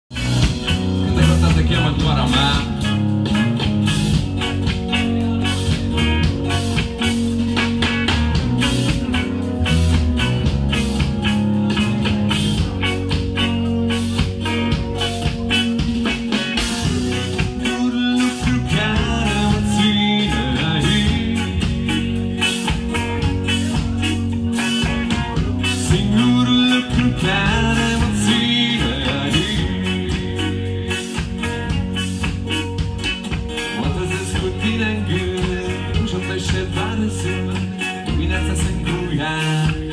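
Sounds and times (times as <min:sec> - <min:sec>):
bass guitar: 0:00.0 - 0:39.9
drums: 0:00.0 - 0:39.9
electric guitars: 0:00.1 - 0:39.9.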